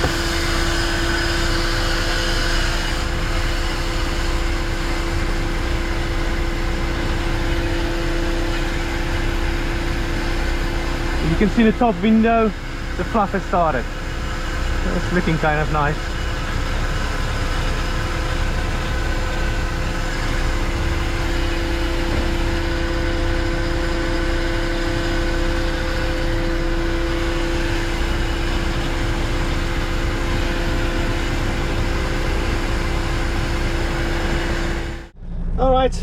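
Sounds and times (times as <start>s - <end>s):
engine-driven blower humming: 0.0s - 35.6s.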